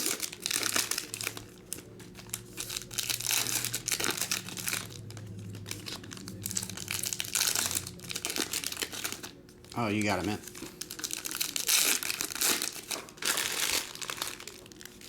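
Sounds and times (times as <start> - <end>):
plastic wrappers crinkling and tearing: 0.0 - 15.0.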